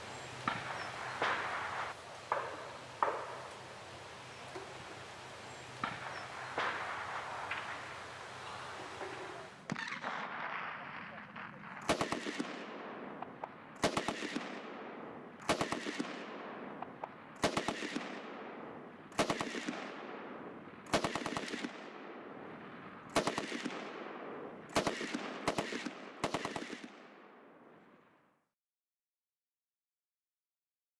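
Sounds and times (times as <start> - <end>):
rolling gunfire echo: 0.0 - 28.1.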